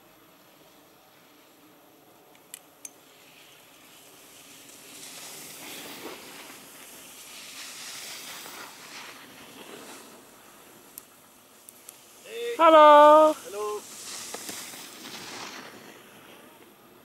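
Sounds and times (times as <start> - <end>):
skis scraping over snow: 0.2 - 1.8, 3.0 - 17.0.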